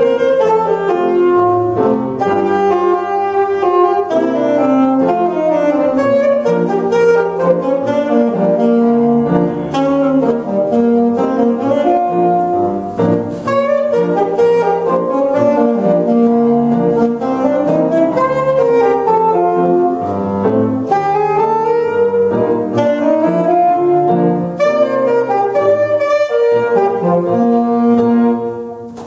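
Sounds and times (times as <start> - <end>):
saxophone and piano playing ragtime: 0.0 - 29.0.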